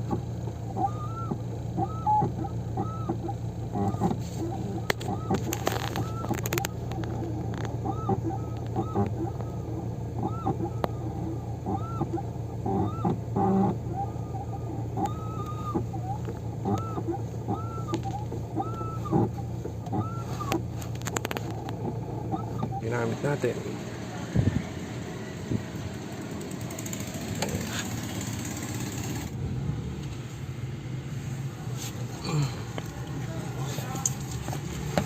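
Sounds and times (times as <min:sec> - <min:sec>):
car clutch squeaking: 0:00.0 - 0:35.0
steady low hum: 0:00.0 - 0:35.0.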